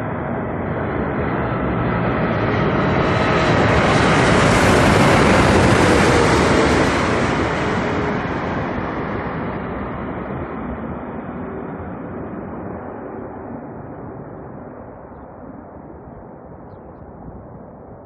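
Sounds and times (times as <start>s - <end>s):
jet plane passing over: 0.0s - 18.0s.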